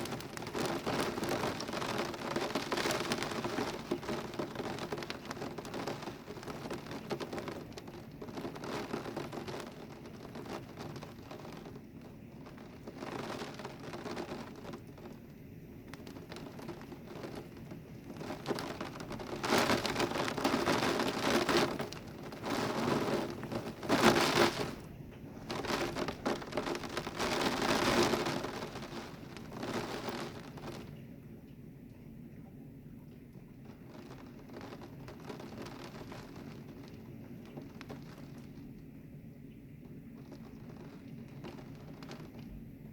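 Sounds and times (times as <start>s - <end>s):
heavy rain pouring: 0.0s - 31.1s, 33.6s - 42.5s.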